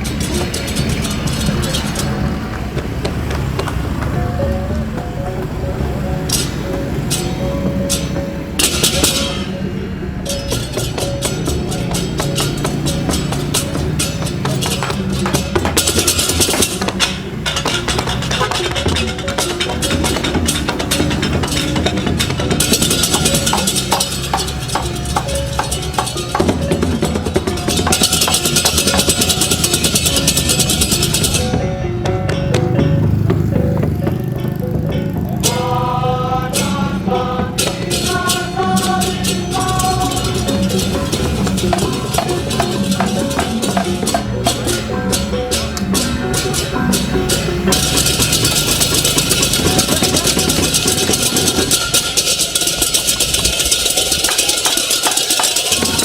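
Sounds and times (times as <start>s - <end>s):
drums and percussion music: 0.0s - 56.0s
high percussion ticking: 0.0s - 56.0s.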